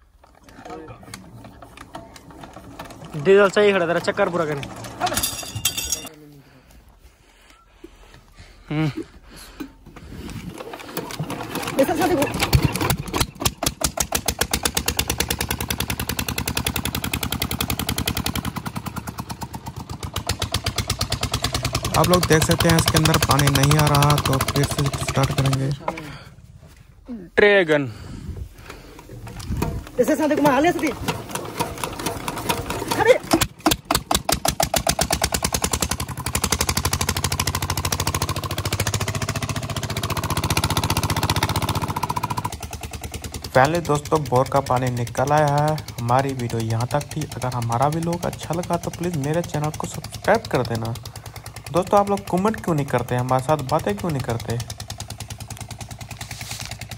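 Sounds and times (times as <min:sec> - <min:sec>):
diesel engine exhaust beats: 0:06.7 - 0:27.1, 0:27.7 - 0:56.9.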